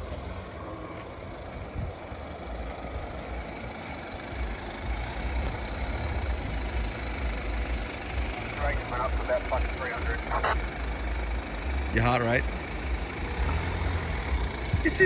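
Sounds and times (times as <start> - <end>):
engine rumbling at low revs: 0.0 - 15.0.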